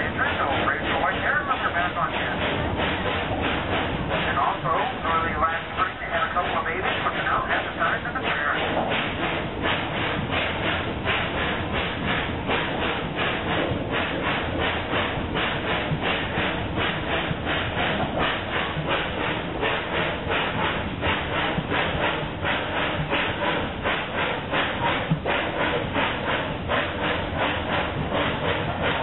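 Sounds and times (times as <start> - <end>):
hissing steam: 0.0 - 29.0
steam locomotive chuffing: 0.0 - 29.0
wheels clicking on track: 0.0 - 29.0.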